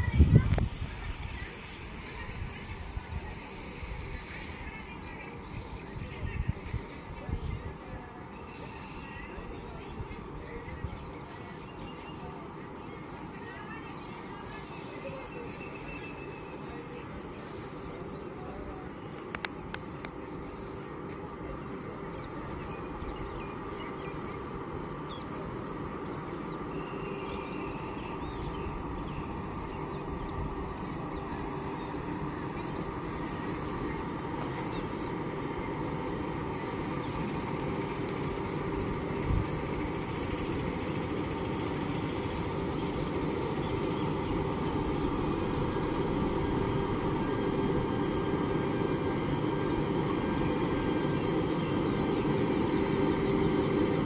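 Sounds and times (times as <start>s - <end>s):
locomotives hum and rumble: 0.0s - 54.0s.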